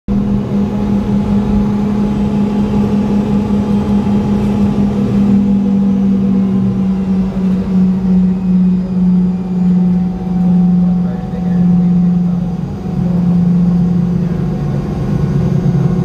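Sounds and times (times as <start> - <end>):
faint engine whines: 0.1 - 16.0
jet engines idling drone: 0.1 - 16.0.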